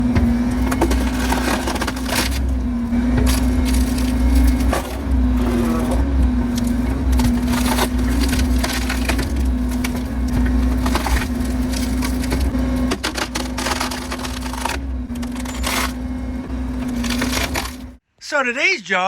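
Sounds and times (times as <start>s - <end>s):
excavator engine droning: 0.0s - 18.0s
wood cracking and splintering: 0.0s - 18.0s.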